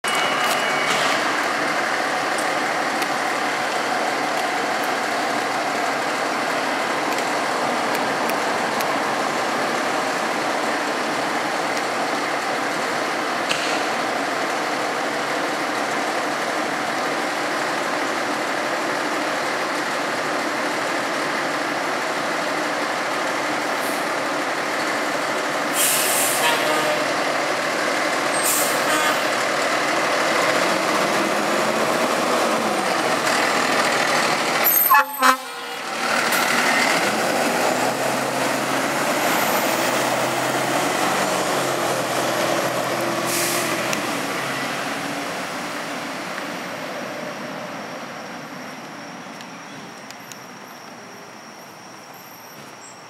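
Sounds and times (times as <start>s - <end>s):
diesel engine idling: 0.2s - 47.0s.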